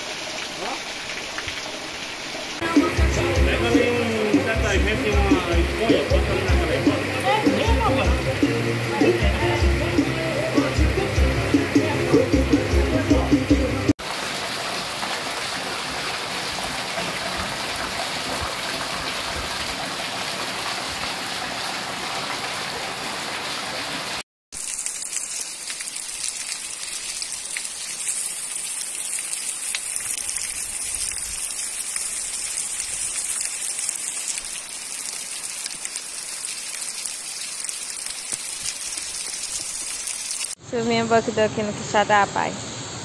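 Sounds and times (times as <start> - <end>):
heavy rain on pavement: 0.0 - 11.0, 14.0 - 40.6
water running off a roof: 0.0 - 12.6, 14.0 - 40.6.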